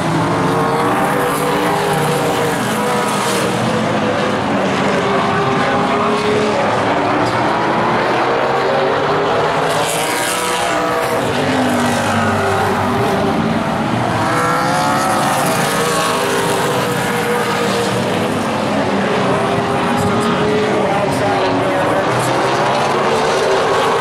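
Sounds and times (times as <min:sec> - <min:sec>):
race car engines passing: 0:00.0 - 0:24.0.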